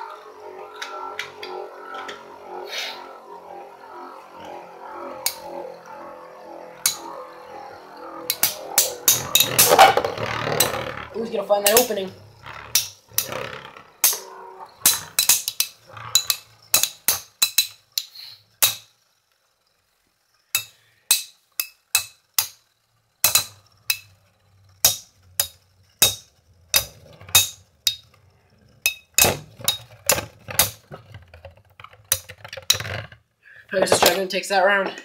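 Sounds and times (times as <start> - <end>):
spinning tops clacking: 0.0 - 33.1.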